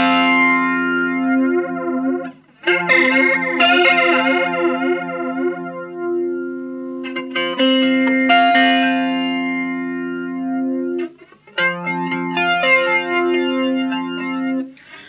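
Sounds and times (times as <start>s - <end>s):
electric guitar chords with flanger: 0.0s - 14.8s.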